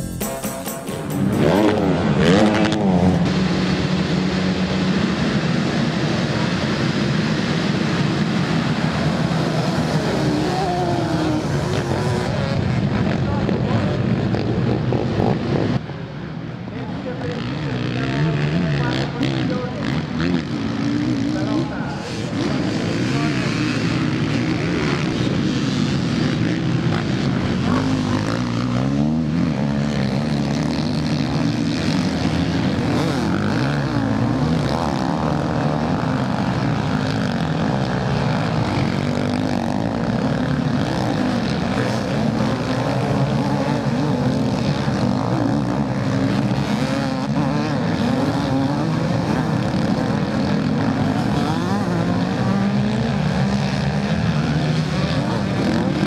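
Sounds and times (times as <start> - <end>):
motocross bike engines revving: 0.8 - 56.0.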